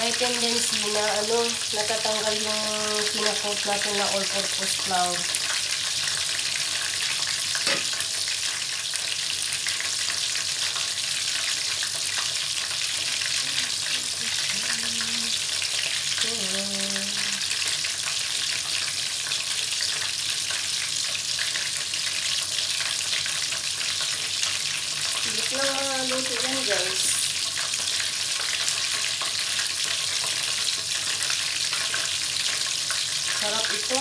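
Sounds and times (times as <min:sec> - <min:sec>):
chicken sizzling in frying oil: 0:00.0 - 0:34.0.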